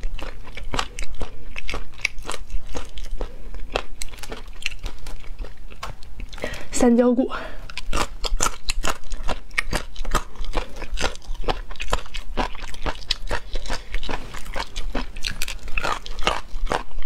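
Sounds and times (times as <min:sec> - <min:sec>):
crunchy chewing: 0:00.0 - 0:06.7, 0:07.6 - 0:17.0.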